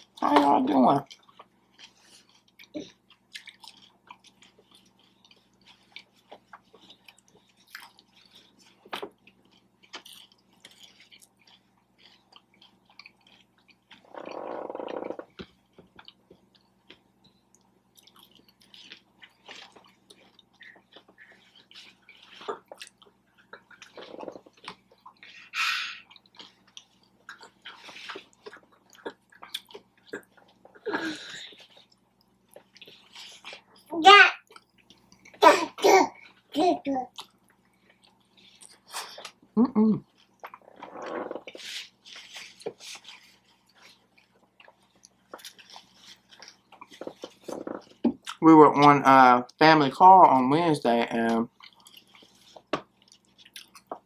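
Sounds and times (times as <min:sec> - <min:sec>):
person chewing with wet smacks: 0:00.0 - 0:49.6, 0:50.2 - 0:54.0.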